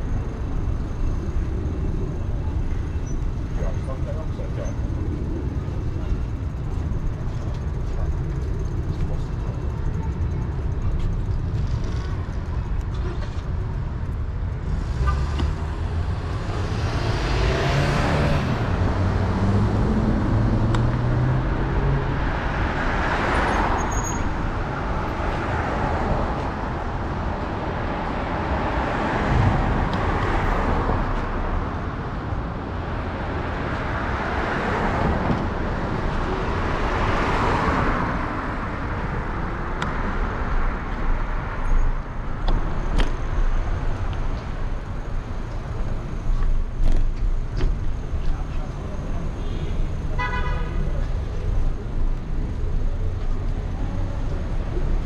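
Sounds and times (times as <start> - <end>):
cars passing with whoosh: 0.0 - 55.0.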